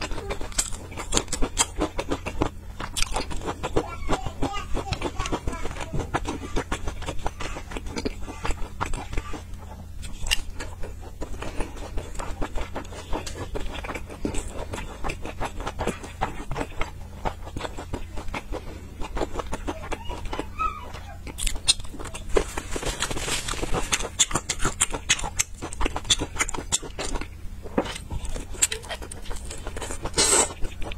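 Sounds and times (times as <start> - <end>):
person chewing: 0.0 - 30.9.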